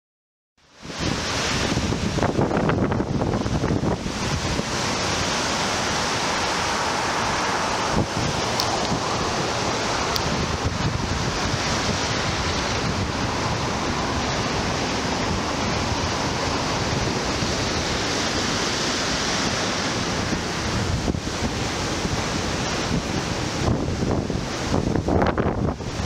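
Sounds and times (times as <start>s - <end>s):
sea surf breaking: 0.7s - 26.0s
wind buffeting microphone: 0.8s - 26.0s.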